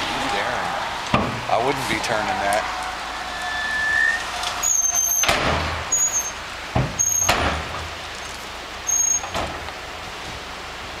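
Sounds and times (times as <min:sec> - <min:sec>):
dump truck rushing noise: 0:00.0 - 0:11.0.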